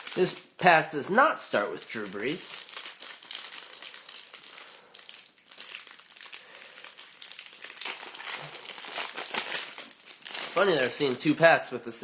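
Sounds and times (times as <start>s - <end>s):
foil card pack crinkling: 0.0s - 0.7s, 1.4s - 11.4s.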